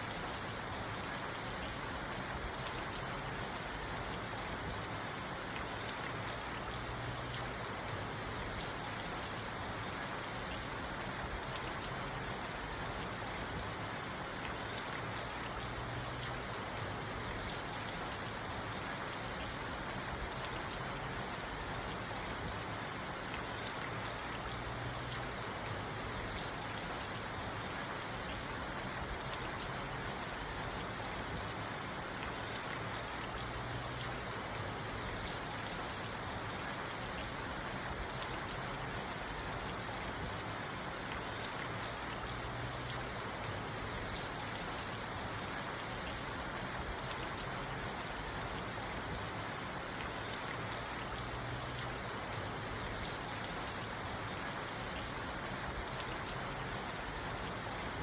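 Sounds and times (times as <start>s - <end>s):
rain on a car roof: 0.0s - 58.0s.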